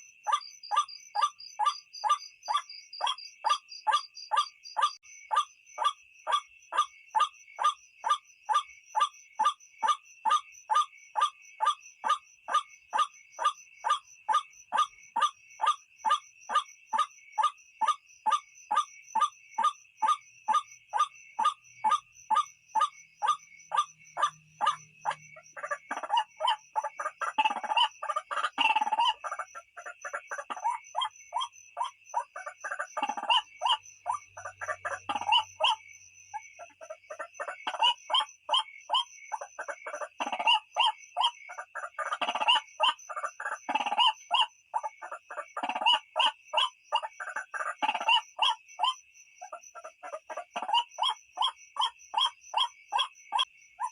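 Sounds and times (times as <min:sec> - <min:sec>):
croaking bird chorus: 0:00.0 - 0:53.9
insect trill: 0:00.0 - 0:53.9.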